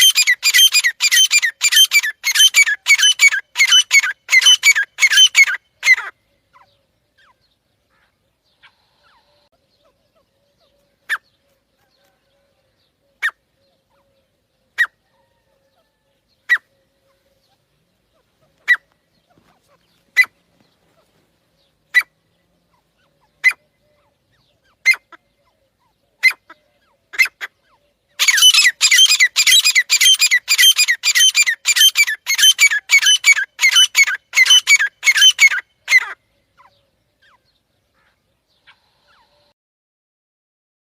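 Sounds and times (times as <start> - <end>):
partridge calling: 0.0 - 39.4.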